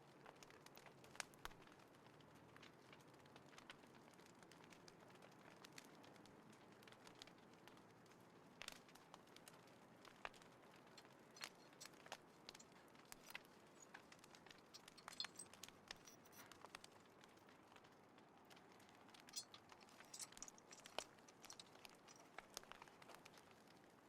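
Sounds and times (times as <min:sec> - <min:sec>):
small wood fire crackling: 0:00.0 - 0:24.0.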